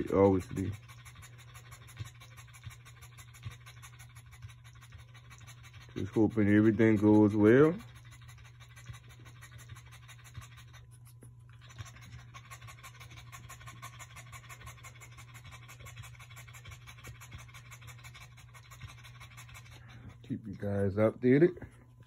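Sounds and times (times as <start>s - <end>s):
dog panting: 0.0s - 22.0s
steady low hum: 0.0s - 22.0s.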